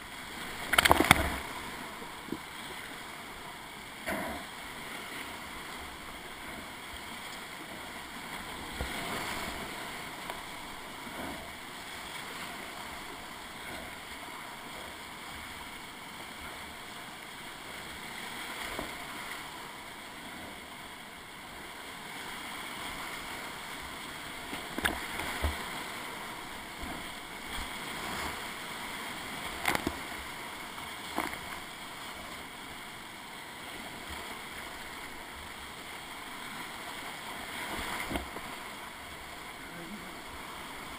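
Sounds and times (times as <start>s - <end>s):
paddle strokes splashing: 0.0s - 20.3s, 21.6s - 40.9s.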